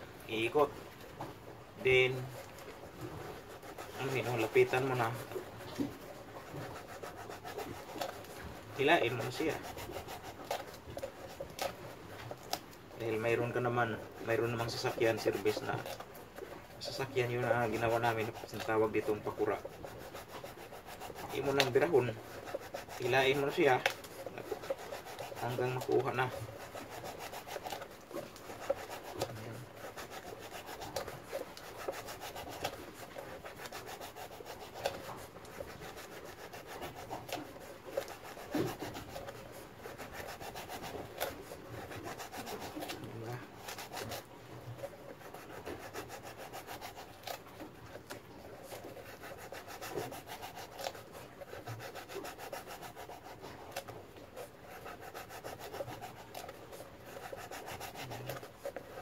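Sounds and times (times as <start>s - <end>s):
knife scraping a fishing float: 0.0s - 59.0s.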